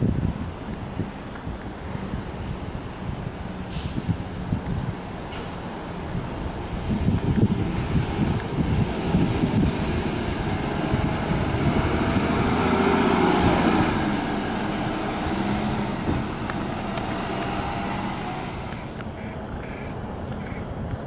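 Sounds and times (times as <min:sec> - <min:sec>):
bus driving past: 0:01.7 - 0:20.9.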